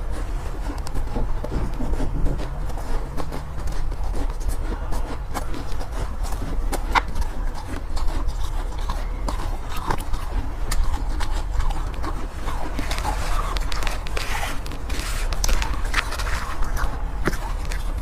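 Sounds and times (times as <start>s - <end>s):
chewing crunchy ice: 0.0s - 18.0s.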